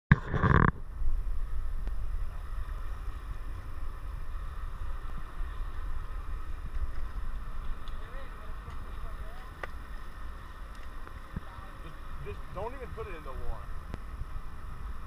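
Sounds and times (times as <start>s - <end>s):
boat low rumble: 0.1s - 15.0s.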